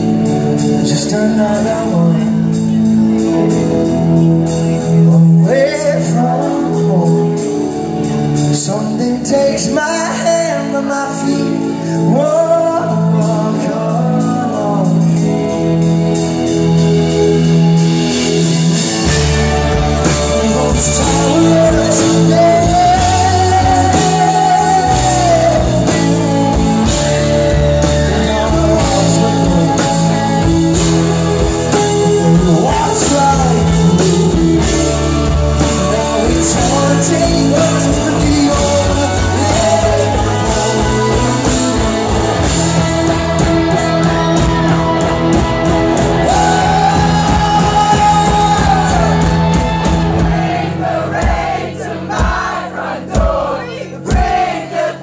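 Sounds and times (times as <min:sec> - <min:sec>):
man singing lead vocal: 0:00.0 - 0:55.0
rock band playing live: 0:00.0 - 0:55.0.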